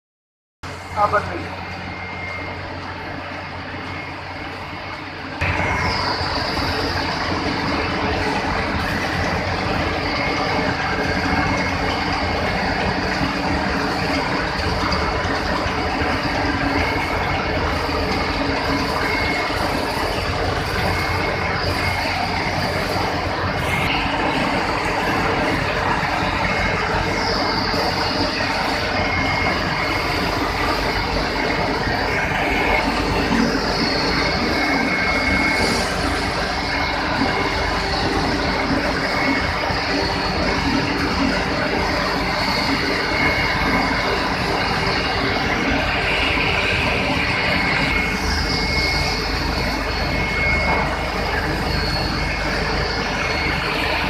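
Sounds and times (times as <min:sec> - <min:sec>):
machinery whining tones: 0:00.6 - 0:54.0
mill machinery clattering: 0:00.7 - 0:54.0.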